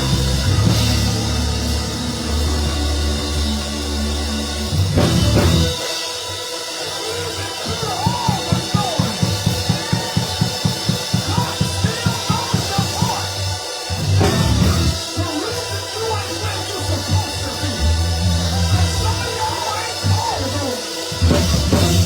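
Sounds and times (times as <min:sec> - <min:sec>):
live church band music: 0:00.0 - 0:22.0.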